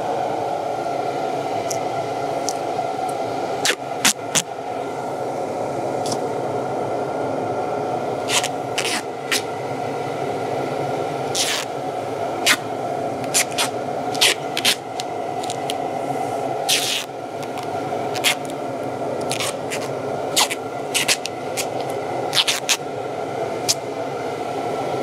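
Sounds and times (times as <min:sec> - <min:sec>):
steady shop hum: 0:00.0 - 0:25.0.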